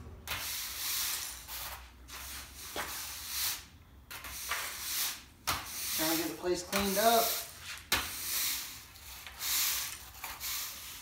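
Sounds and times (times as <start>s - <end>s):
push broom sweeping concrete: 0.2s - 11.0s.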